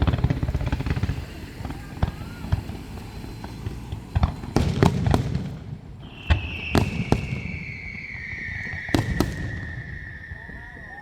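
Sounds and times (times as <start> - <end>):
falling firework whistle: 0.0 - 11.0
fireworks bangs: 0.0 - 11.0.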